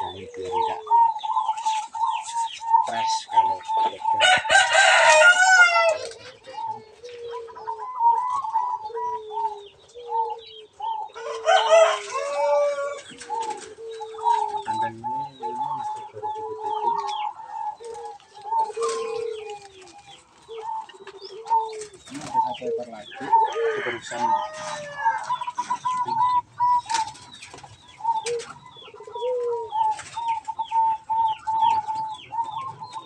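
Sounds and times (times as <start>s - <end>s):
chicken calling: 0.0s - 33.0s
doves cooing: 0.0s - 33.0s.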